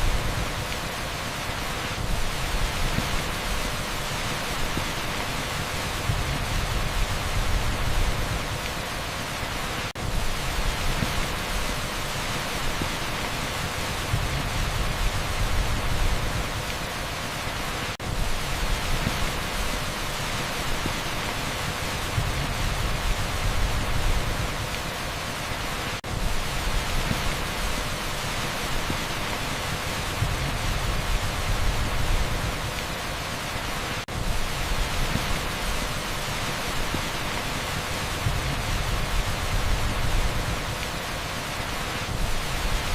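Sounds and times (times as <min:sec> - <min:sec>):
heavy rain on a street: 0:00.0 - 0:42.9.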